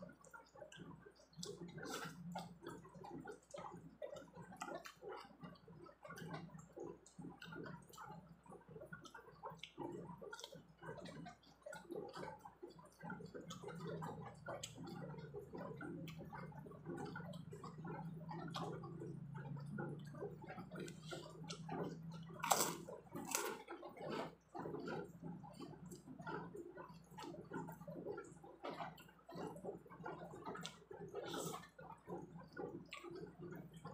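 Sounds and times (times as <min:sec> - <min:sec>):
chewing crunchy crackers: 0:00.0 - 0:33.9
wet mouth sounds: 0:00.8 - 0:05.5, 0:08.9 - 0:33.9.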